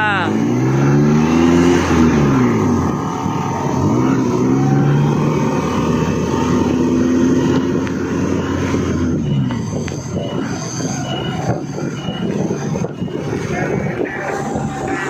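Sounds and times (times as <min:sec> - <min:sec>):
constant rumbling: 0:00.0 - 0:15.0
off-road vehicle engine revving: 0:00.0 - 0:15.0.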